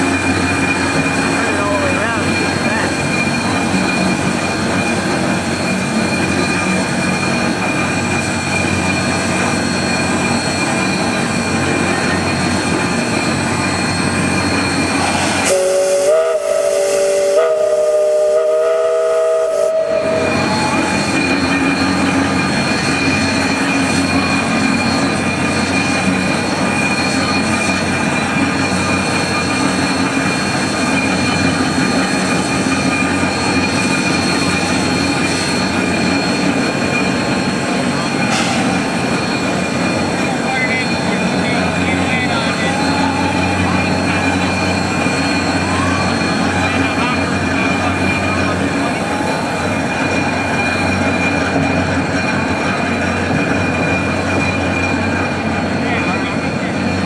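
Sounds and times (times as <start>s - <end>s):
steam locomotive chime whistle: 0.0s - 57.0s
steam locomotive running: 0.0s - 57.0s.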